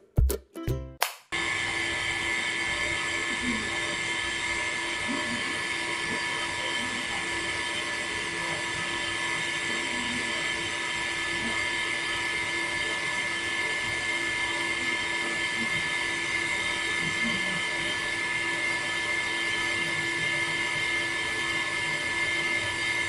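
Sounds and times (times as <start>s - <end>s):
small water pump whining: 1.4s - 23.0s.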